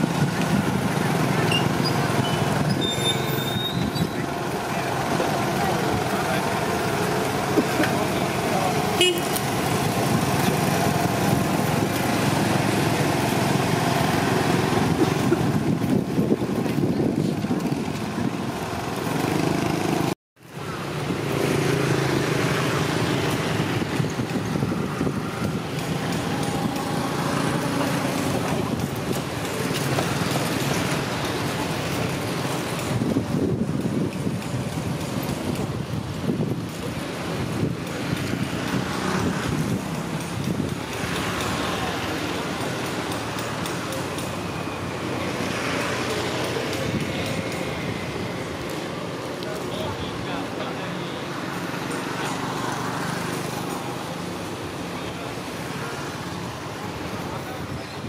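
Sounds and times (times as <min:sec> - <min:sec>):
road traffic din: 0:00.0 - 0:58.0.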